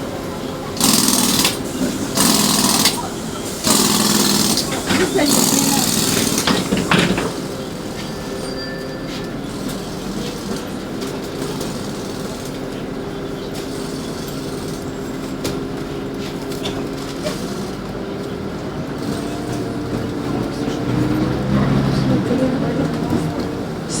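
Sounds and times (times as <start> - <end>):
bus engine hum: 0.0 - 24.0.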